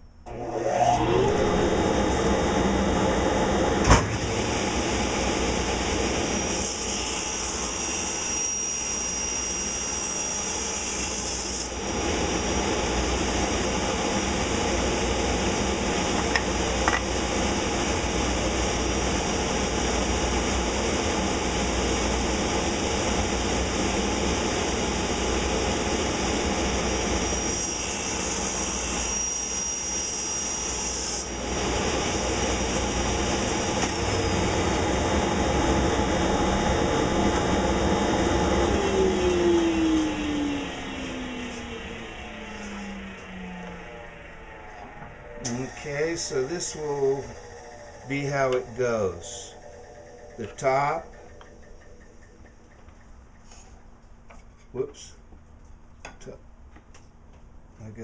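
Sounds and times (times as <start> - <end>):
table saw cutting wood: 0.3 - 52.2.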